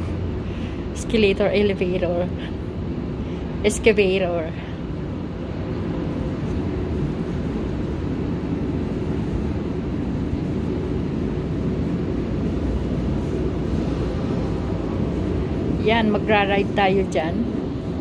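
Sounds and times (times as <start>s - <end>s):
funicular car rumbling: 0.0s - 18.0s.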